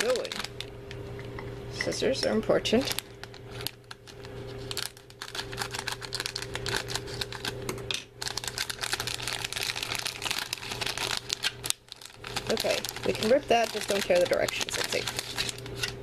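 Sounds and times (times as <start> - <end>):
scissors cutting plastic wrapper: 0.0 - 0.7, 2.8 - 7.6, 8.2 - 16.0.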